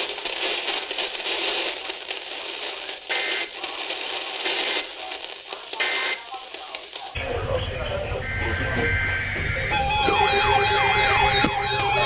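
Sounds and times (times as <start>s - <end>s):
radio static hiss: 0.0s - 9.7s.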